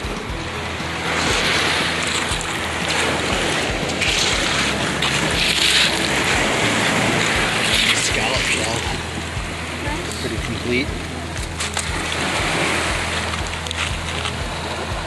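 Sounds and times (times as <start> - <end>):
surf washing onto pebble beach: 0.0 - 15.0
wind buffeting microphone: 0.0 - 15.0.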